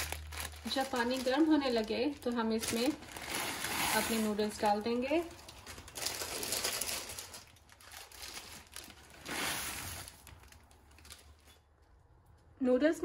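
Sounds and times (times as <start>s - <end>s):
plastic packet rustling: 0.0s - 11.8s.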